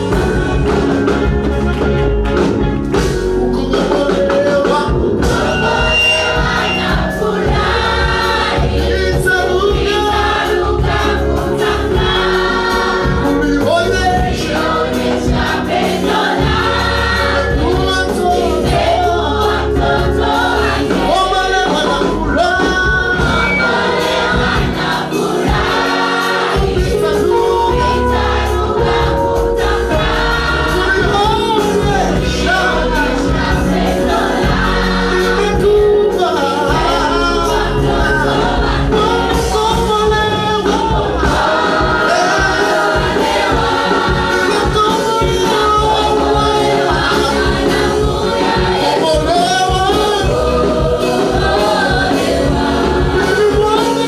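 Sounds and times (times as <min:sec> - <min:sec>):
mixed choir singing: 0:00.0 - 0:01.3, 0:03.5 - 0:54.0
instrumental backing: 0:00.0 - 0:54.0.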